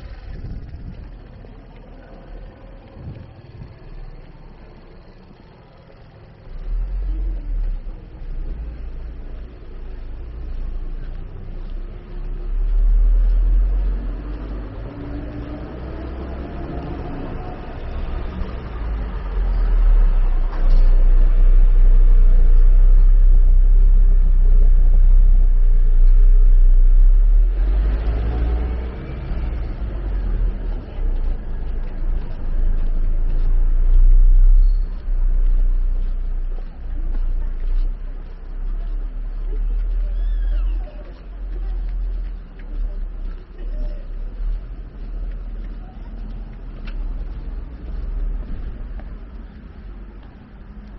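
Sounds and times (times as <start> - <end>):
road traffic rumble: 0.0 - 50.9.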